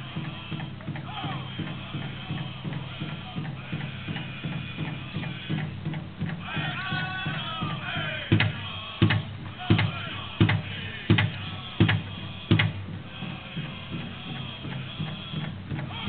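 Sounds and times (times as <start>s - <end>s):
big drum beating: 0.0s - 16.0s
loud drum strikes: 0.0s - 16.0s.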